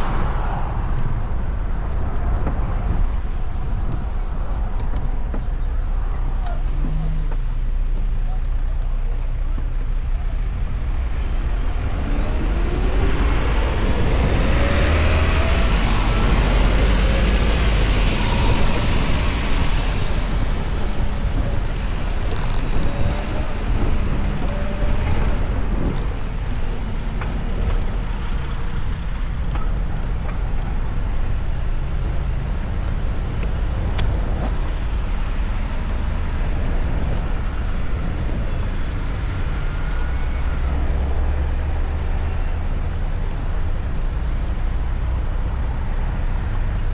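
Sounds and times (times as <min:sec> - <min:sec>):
wind noise: 0:00.0 - 0:07.6, 0:09.5 - 0:46.9
city traffic: 0:00.0 - 0:46.9
heavy steady rumble: 0:00.0 - 0:46.9.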